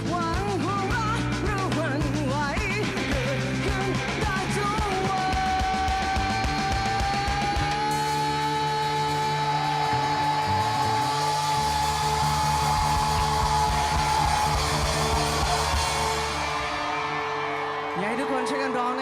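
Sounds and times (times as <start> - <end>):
band playing instrumental: 0.0 - 19.0.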